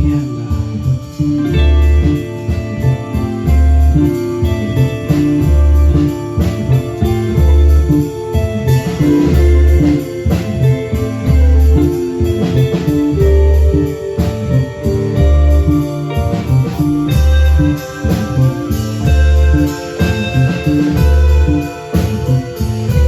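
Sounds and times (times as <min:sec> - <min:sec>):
guitar playing: 0:00.0 - 0:23.0
heavy bass line: 0:00.0 - 0:23.0
light percussion: 0:00.0 - 0:23.0.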